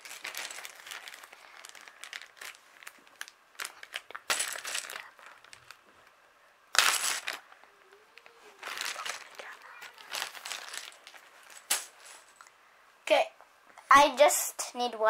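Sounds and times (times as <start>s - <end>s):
rustling and crinkling: 0.0s - 12.5s.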